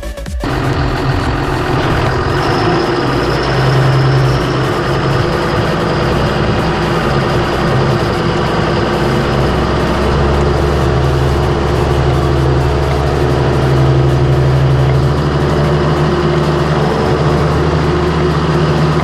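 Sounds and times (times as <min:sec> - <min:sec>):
tractor diesel engine running: 0:00.4 - 0:19.0.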